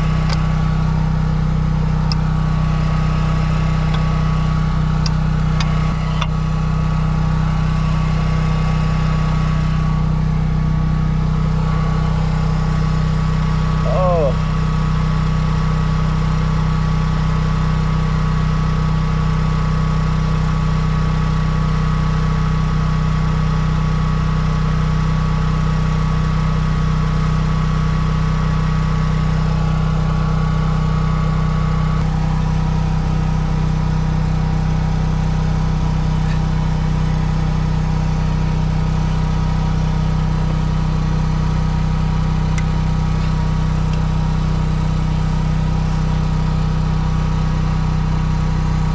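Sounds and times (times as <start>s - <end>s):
engine running steadily: 0.0s - 48.9s.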